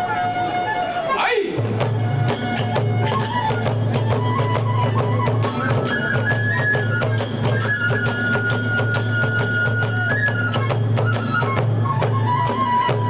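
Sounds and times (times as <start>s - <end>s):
drums: 0.0s - 13.0s
high bamboo flute: 0.0s - 13.0s
small hand cymbals: 1.7s - 13.0s.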